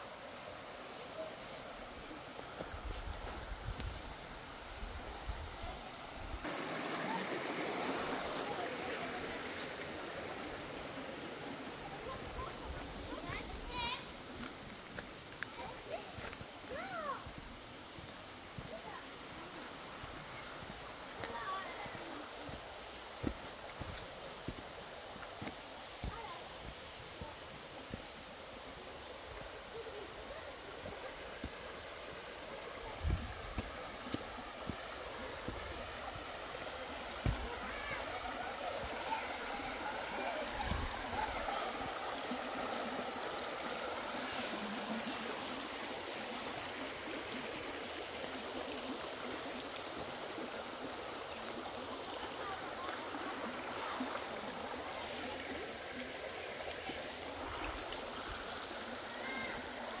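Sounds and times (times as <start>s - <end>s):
waterfall rushing and splashing: 0.0s - 60.0s.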